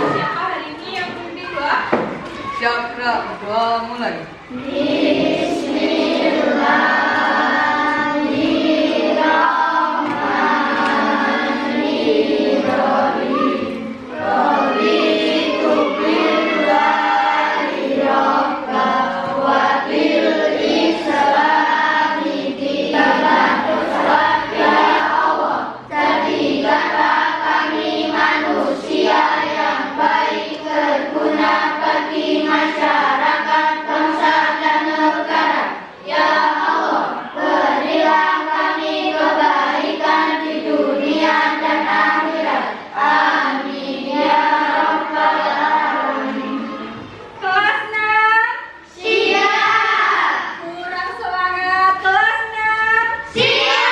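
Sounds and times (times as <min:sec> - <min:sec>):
children chanting in unison: 0:00.0 - 0:47.9, 0:48.5 - 0:53.9.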